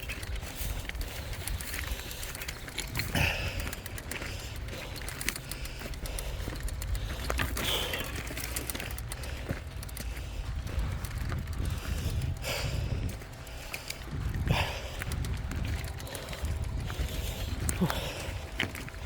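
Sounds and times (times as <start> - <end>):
bike rumbling over stony trail: 0.0 - 19.0
rider breathing hard: 0.0 - 19.0.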